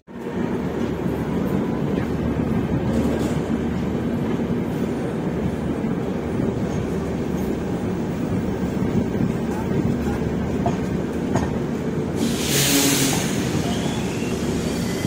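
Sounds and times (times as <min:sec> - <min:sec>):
train wheels running on rails: 0:00.1 - 0:15.0.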